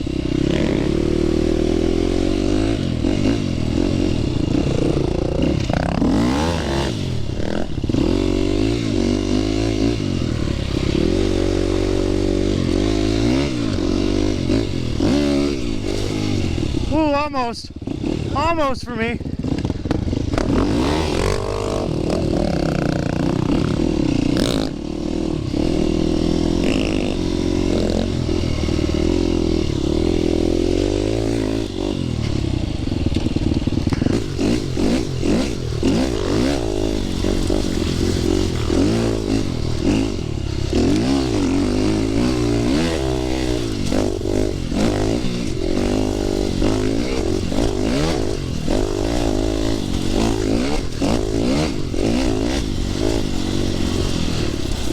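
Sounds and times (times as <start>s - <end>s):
bike rattling over rough ground: 0.0s - 54.9s
dirt bike engine revving: 0.0s - 54.9s.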